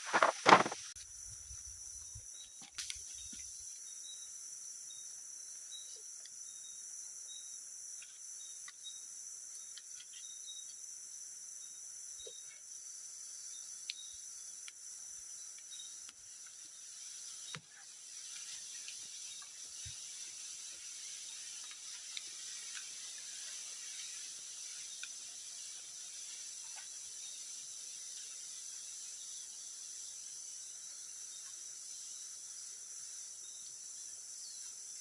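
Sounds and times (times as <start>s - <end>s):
insect chirps: 0.0s - 35.0s
high-pitched insect drone: 0.1s - 35.0s.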